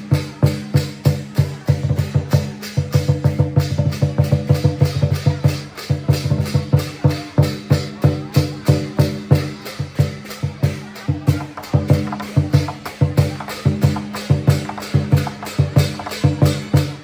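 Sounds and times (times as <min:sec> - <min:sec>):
cymbals clashing: 0:00.0 - 0:17.0
large drum beating: 0:00.0 - 0:17.0.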